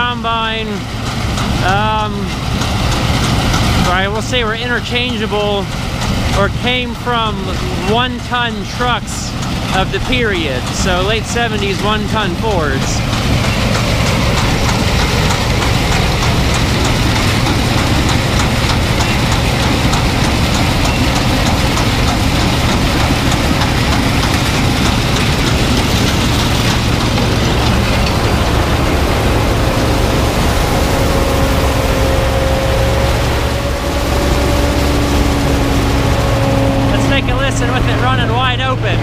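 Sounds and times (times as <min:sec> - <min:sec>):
combine harvester running: 0:00.0 - 0:39.0
thin steady whine: 0:00.0 - 0:39.0.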